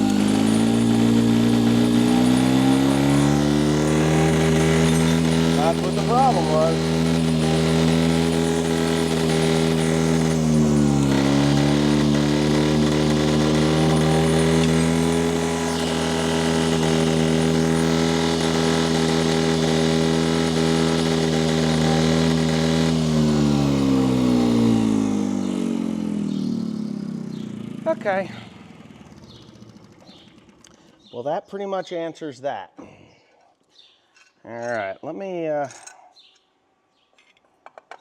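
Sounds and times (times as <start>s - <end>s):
small petrol motor running: 0.0s - 31.0s.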